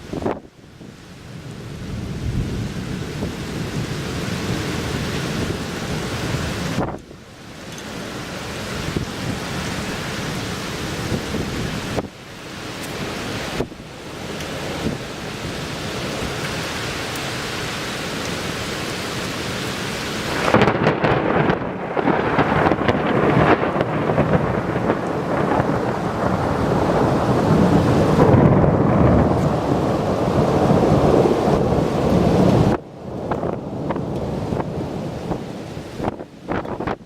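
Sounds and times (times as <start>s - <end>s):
steady rain: 0.0s - 37.0s
thunder rumbling and crackling: 0.0s - 37.0s.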